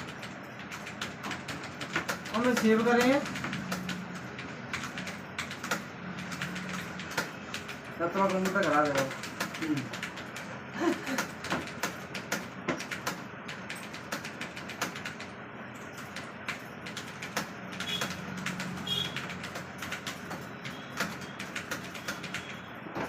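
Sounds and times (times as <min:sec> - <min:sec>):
typing on computer keyboard: 0:00.0 - 0:22.6.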